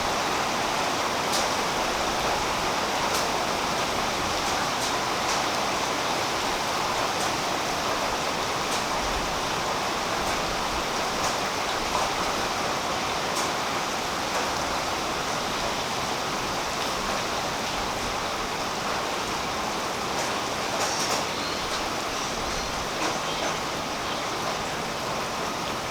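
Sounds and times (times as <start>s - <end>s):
rain falling on leaves: 0.0s - 25.9s.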